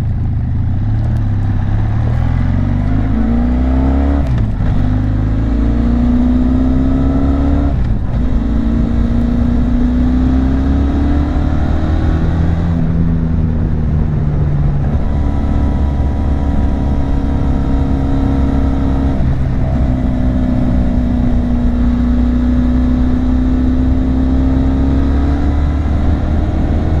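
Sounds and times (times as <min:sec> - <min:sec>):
motorcycle engine and exhaust: 0:00.0 - 0:27.0.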